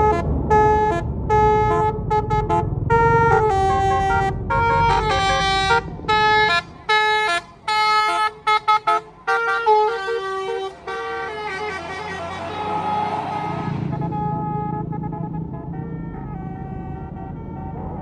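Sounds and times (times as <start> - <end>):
bus going past: 0.0 - 18.0
bus musical horn tune: 0.0 - 18.0.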